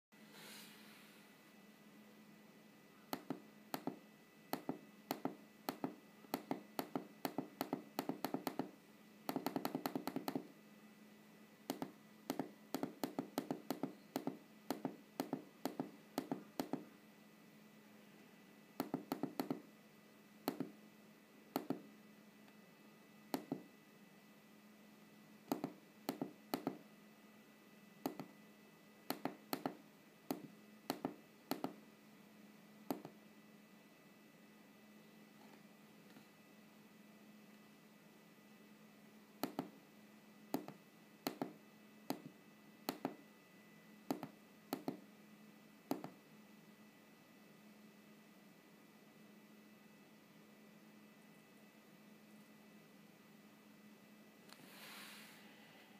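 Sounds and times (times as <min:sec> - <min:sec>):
faint steady hum: 0:00.2 - 0:55.9.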